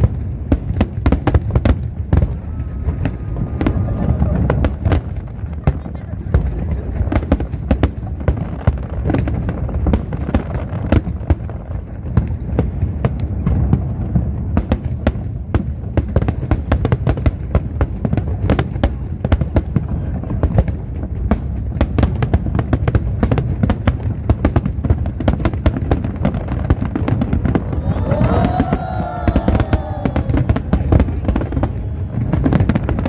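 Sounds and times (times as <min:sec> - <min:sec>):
fireworks cracks and bangs: 0:00.0 - 0:33.0.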